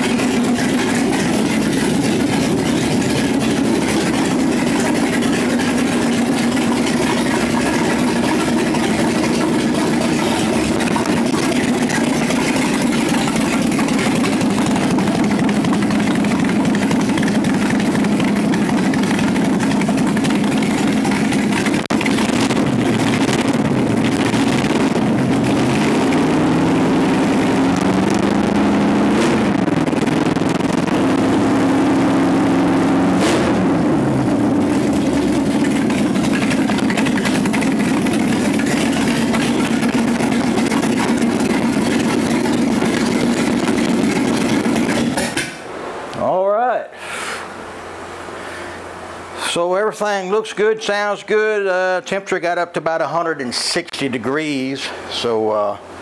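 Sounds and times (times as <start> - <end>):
engine idling and revving: 0.0 - 45.8.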